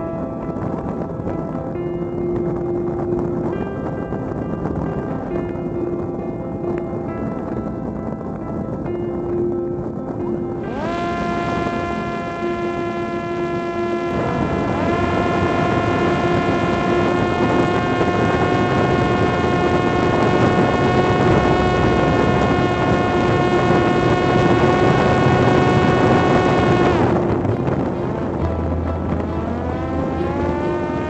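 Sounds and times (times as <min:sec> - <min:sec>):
electric motor and propeller whining: 0:00.0 - 0:31.0
wind noise: 0:00.0 - 0:31.0.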